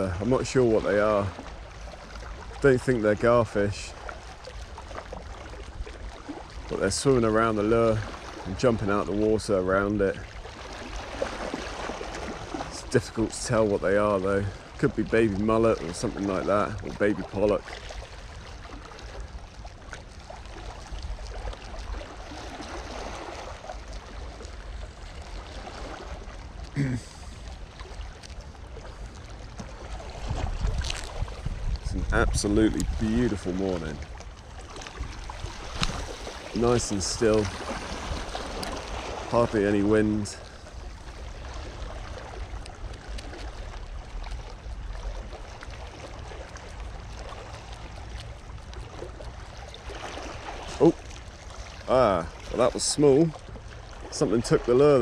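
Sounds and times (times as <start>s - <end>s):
waves lapping against rocks: 0.0s - 55.0s.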